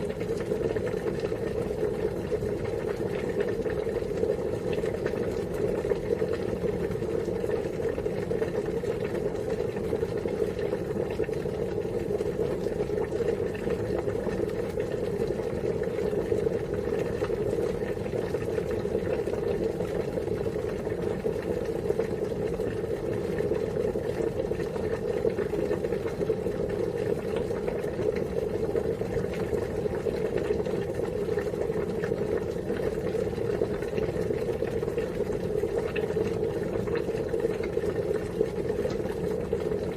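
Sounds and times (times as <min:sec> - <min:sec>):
water bubbling at a boil: 0:00.0 - 0:39.9.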